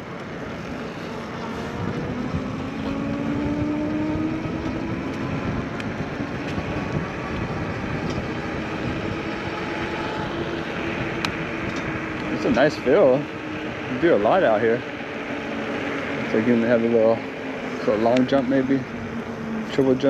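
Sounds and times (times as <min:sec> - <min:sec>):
wind rushing over microphone: 0:00.0 - 0:20.0
electric motor whine rising: 0:00.2 - 0:20.0.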